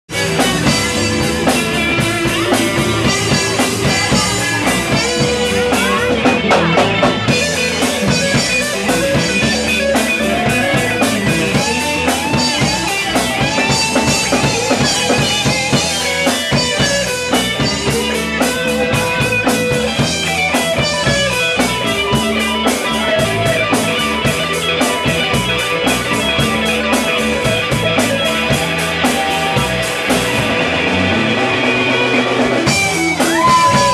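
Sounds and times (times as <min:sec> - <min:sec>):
drum kit: 0:00.1 - 0:33.9
electric guitar solo: 0:00.1 - 0:33.9
rhythm guitar: 0:00.1 - 0:33.9.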